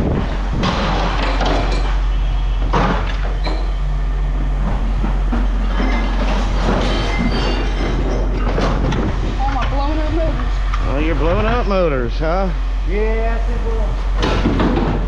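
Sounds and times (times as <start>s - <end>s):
low machinery rumble: 0.0s - 15.0s
scrap metal clanking and rattling: 0.2s - 11.7s, 13.9s - 15.0s.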